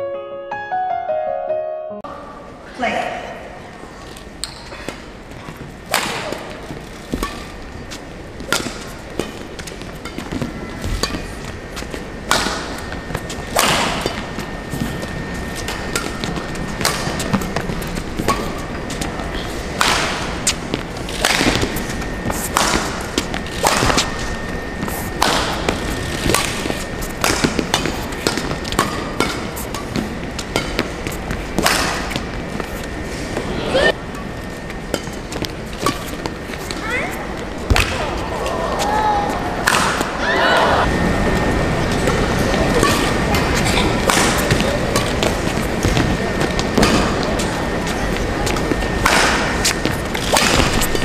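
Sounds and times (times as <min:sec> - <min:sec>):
rackets hitting shuttlecock: 0:05.9 - 0:33.0, 0:34.2 - 0:38.6, 0:39.3 - 0:40.2, 0:41.4 - 0:47.6, 0:48.4 - 0:51.0.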